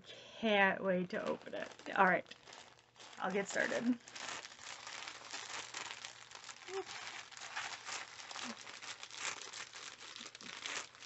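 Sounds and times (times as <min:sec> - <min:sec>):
packaging crinkling and rustling: 0:01.0 - 0:11.0.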